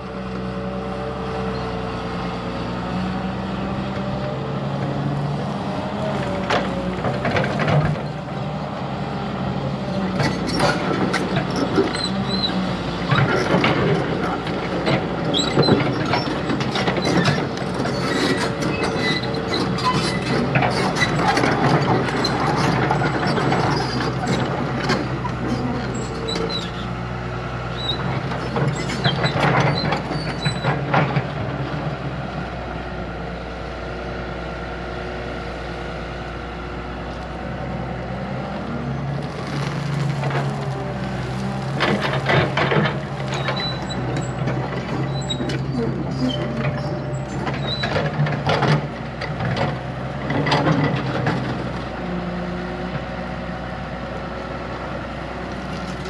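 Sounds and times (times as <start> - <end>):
earthmoving machine diesel engine: 0.0 - 56.0.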